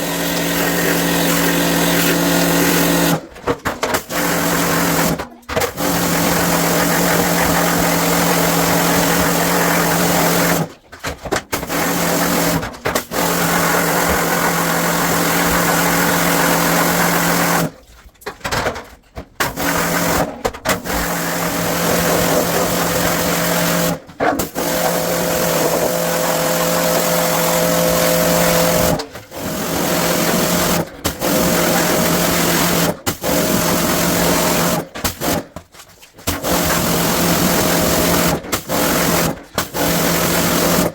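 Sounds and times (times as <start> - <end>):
pressure washer motor hum: 0.0 - 3.3, 4.0 - 10.8, 11.5 - 17.8, 19.4 - 35.5, 36.3 - 40.9.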